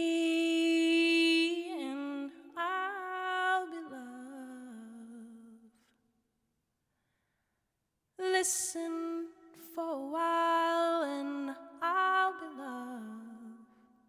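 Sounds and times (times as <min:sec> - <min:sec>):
woman singing wordless melody: 0:00.0 - 0:05.9, 0:08.2 - 0:13.9.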